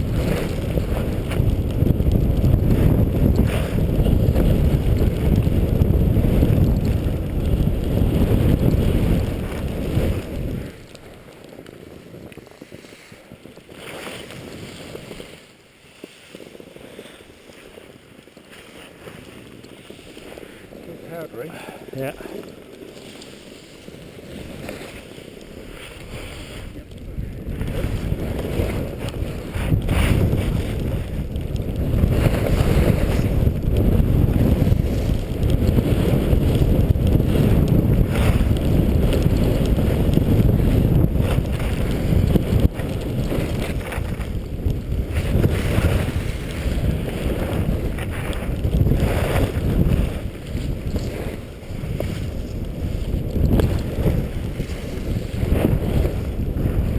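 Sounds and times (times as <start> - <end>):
wind buffeting microphone: 0.0 - 15.4, 16.3 - 56.9
skis sliding over snow: 0.0 - 56.9.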